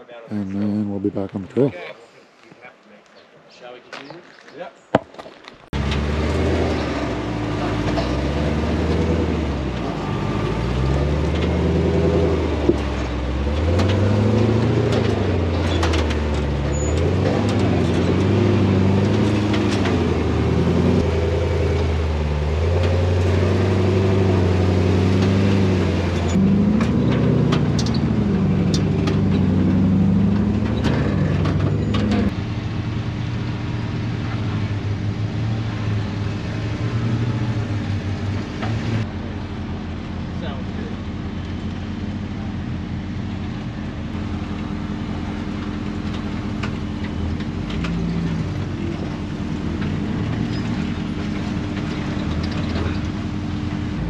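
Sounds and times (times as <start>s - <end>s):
off-road truck engine revving: 5.8s - 54.0s.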